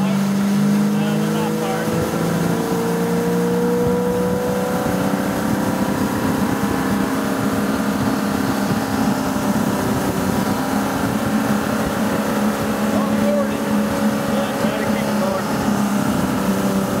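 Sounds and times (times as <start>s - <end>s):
motorboat engine running: 0.0s - 17.0s
water wash: 0.0s - 17.0s
wind noise: 1.8s - 17.0s.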